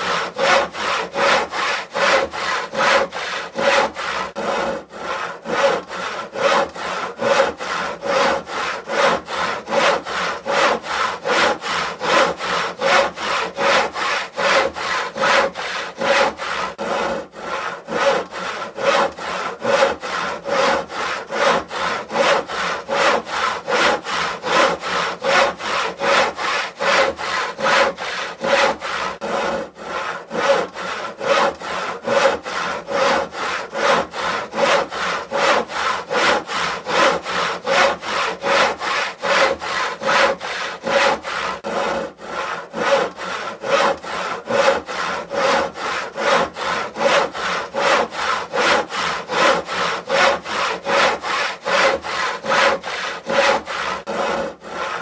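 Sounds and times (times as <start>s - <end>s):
handsaw cutting wood: 0.0s - 55.0s.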